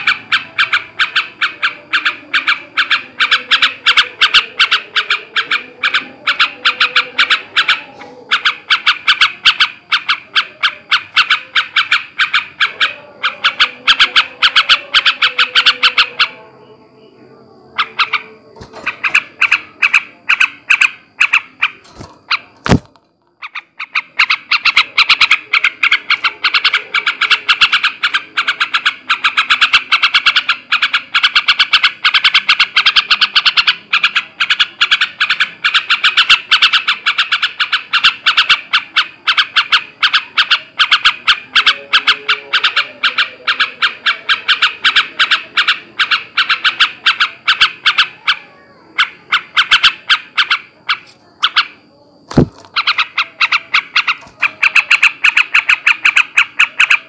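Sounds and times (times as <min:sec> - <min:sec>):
bulbul chattering: 0:00.0 - 0:57.0.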